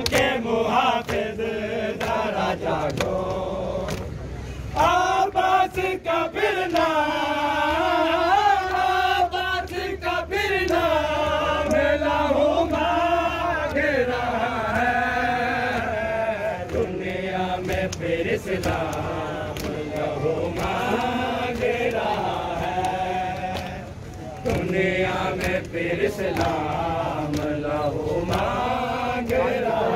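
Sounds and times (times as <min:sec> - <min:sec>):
men chanting a lament: 0:00.0 - 0:29.9.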